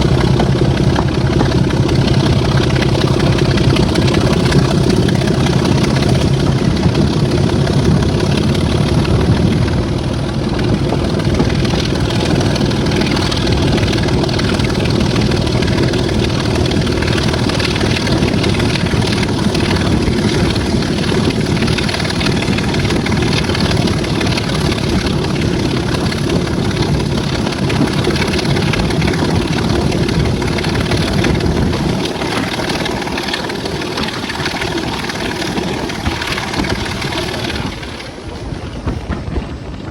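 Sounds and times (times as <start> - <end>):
diesel locomotive engine droning: 0.0 - 39.9
train running noise: 0.0 - 39.9.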